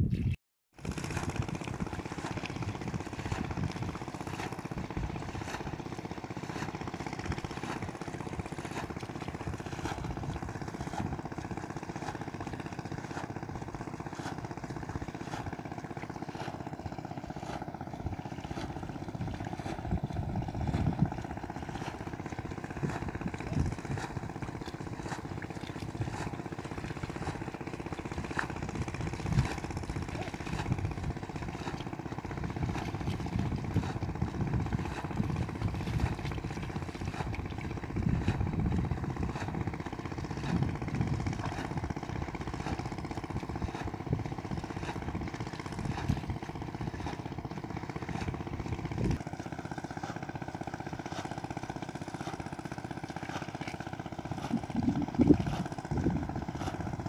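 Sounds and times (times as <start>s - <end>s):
engine droning steadily: 0.8s - 57.0s
knocks or splashes: 0.8s - 57.0s.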